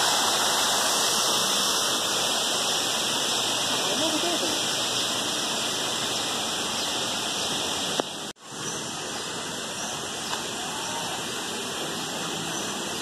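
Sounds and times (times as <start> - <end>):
outdoor hiss: 0.0 - 13.0.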